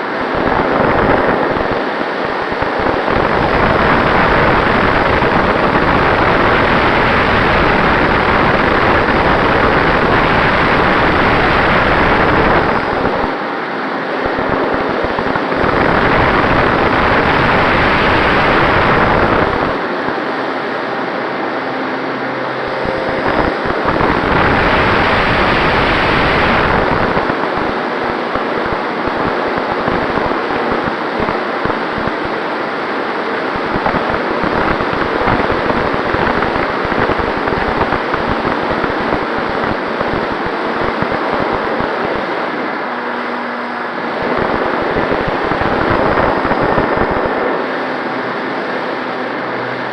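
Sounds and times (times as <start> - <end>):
airplane propeller running: 0.0 - 49.9
wind rushing over microphone: 0.0 - 49.9.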